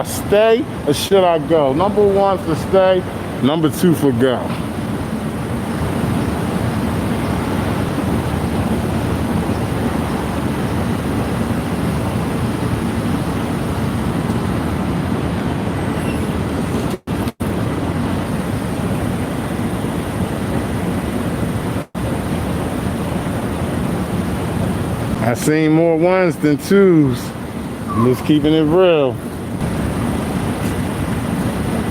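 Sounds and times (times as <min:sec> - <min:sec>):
street traffic rumble: 0:00.0 - 0:31.9.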